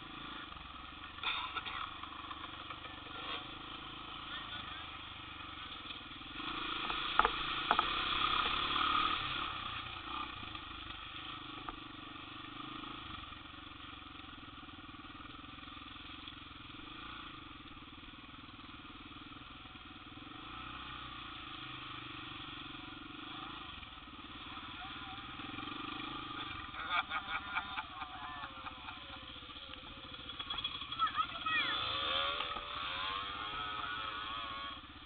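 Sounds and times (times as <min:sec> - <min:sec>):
atv engines running: 0:00.0 - 0:35.0.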